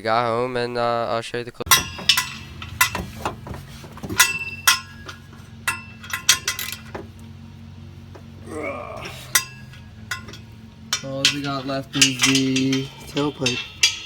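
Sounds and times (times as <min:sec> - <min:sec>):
metal parts clinking: 0:01.7 - 0:14.0
steady low hum: 0:01.7 - 0:14.0.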